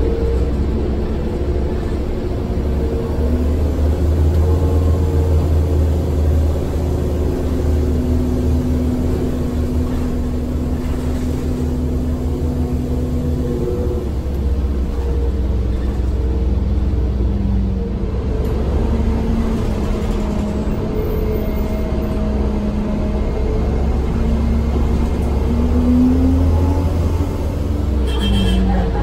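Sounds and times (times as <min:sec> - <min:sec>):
bus engine low rumble: 0:00.0 - 0:29.0.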